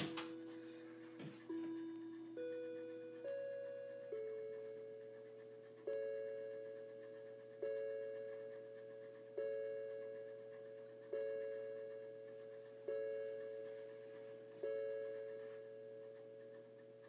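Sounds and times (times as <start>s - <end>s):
tinny electronic clock chime: 0.0s - 17.0s.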